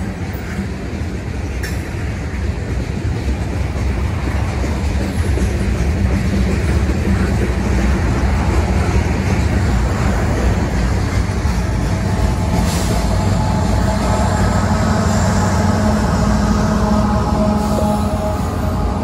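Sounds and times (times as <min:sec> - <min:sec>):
diesel locomotive engine running: 0:00.0 - 0:19.0
train wheels rumbling on rail: 0:00.0 - 0:19.0.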